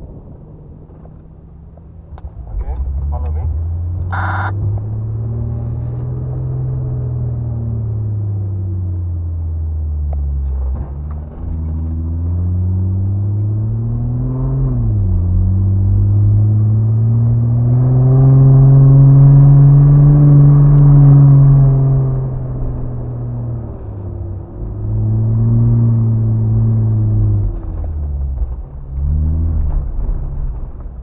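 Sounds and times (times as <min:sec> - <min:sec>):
truck engine under load: 0:00.0 - 0:31.0.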